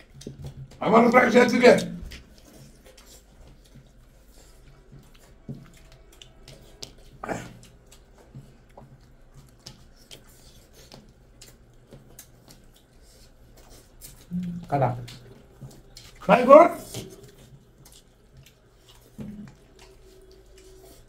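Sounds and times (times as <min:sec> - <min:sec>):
chewing and lip smacks: 0:00.0 - 0:00.8, 0:01.5 - 0:21.0.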